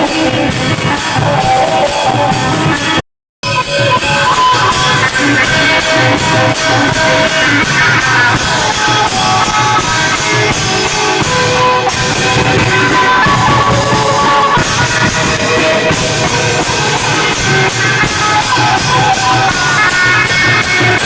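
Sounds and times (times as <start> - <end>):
drums and cymbals beat: 0.0 - 21.0.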